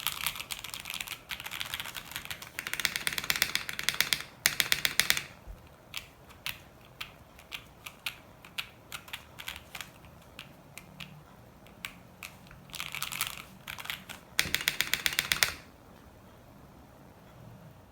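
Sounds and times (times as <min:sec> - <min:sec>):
mechanical keyboard typing: 0:00.0 - 0:15.8.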